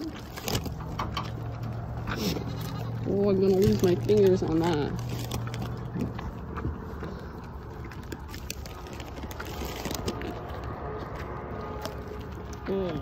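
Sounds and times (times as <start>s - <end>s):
goats chewing with wet smacks: 0.0s - 13.0s.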